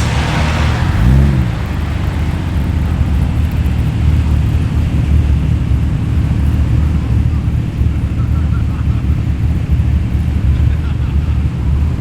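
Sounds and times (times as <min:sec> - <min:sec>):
car engine passing by: 0:00.0 - 0:12.0.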